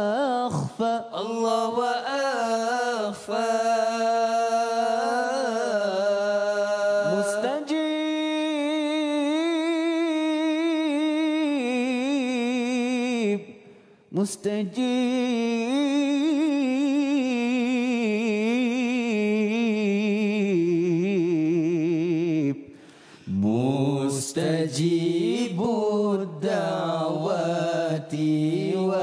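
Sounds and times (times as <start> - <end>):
man singing ornamented line: 0.0 - 22.7, 23.3 - 29.0.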